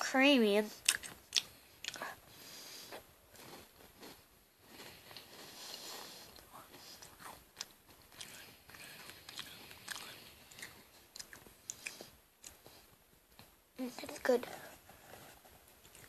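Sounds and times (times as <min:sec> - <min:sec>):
child chewing biscuit: 0:00.7 - 0:16.0.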